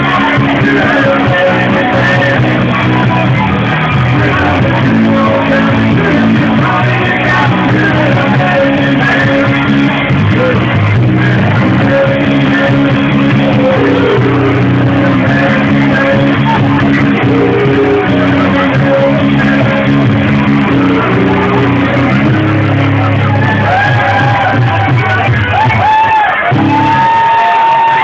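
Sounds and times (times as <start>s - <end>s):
electric guitar: 0.0s - 28.0s
live rock band playing: 0.0s - 28.0s.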